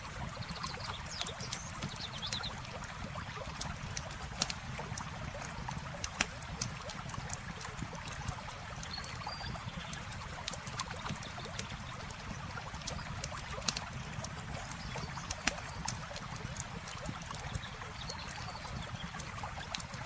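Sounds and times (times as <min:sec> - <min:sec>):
campfire crackling and popping: 0:00.4 - 0:20.0.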